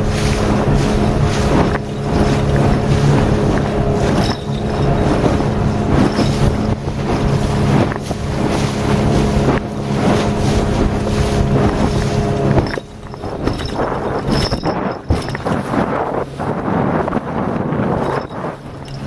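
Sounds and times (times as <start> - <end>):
outboard motor running: 0.0 - 19.0
water rushing past hull: 0.0 - 19.0
wind buffeting microphone: 0.0 - 19.0.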